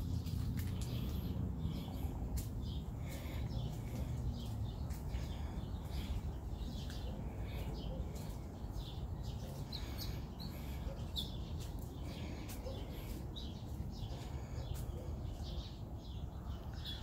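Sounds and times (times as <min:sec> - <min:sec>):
steady low rumble: 0:00.0 - 0:16.0
small birds chirping: 0:00.0 - 0:17.0.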